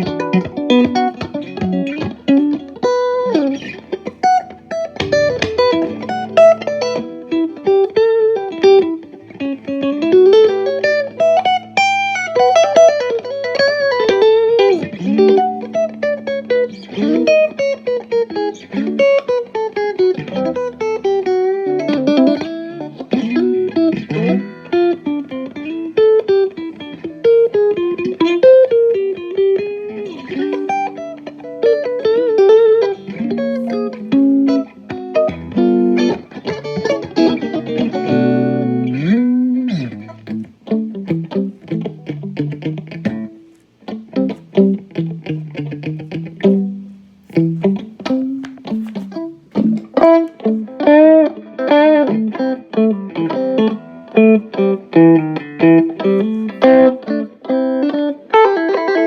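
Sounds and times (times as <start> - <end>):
electric guitar melody: 0.0 - 59.0.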